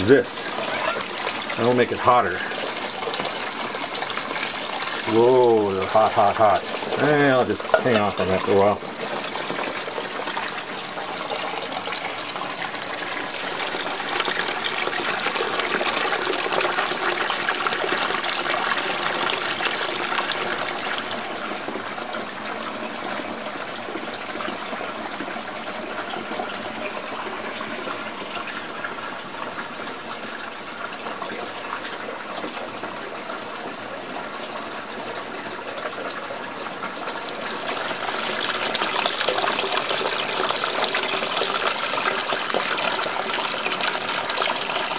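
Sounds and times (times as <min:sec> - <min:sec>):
water pouring into a bathtub: 0:00.0 - 0:44.9.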